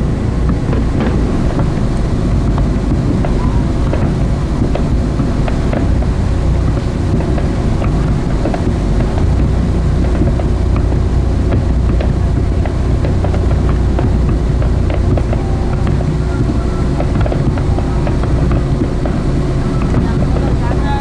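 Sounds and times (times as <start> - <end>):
boat rumble: 0.0 - 21.0
wind buffeting microphone: 0.0 - 21.0.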